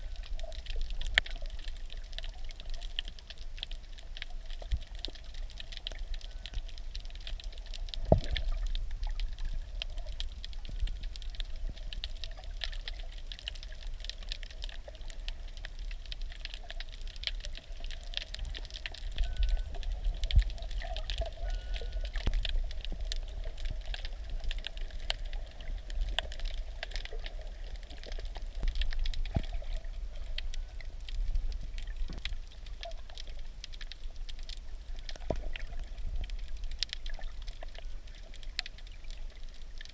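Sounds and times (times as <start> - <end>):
crackling clicks underwater: 0.0 - 39.9
underwater wash: 0.0 - 39.9.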